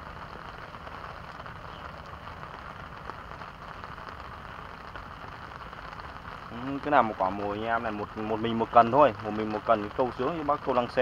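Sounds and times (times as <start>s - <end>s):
rain falling on a pond: 0.0s - 11.0s.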